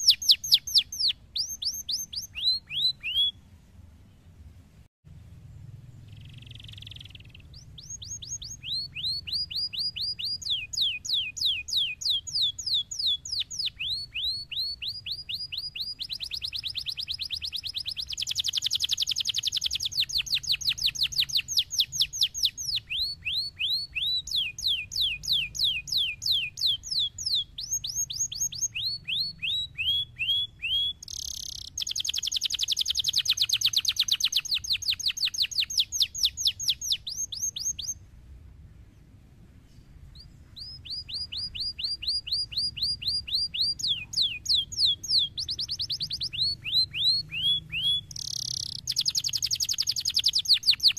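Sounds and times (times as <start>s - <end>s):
canary singing: 0.0s - 4.7s, 5.9s - 38.0s, 39.7s - 50.9s.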